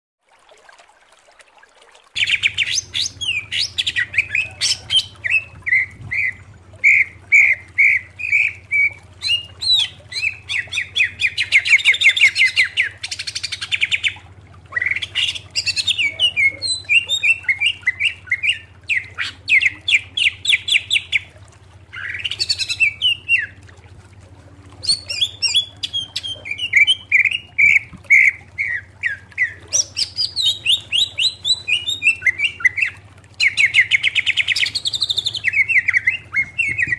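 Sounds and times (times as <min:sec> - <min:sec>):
bird singing trills: 0:02.2 - 0:21.3, 0:21.9 - 0:23.6, 0:24.8 - 0:36.9.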